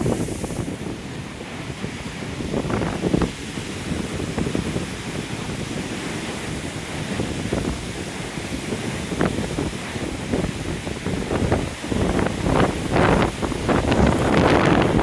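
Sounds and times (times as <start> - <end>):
surf breaking ashore: 0.0 - 15.0
wind buffeting microphone: 0.0 - 15.0.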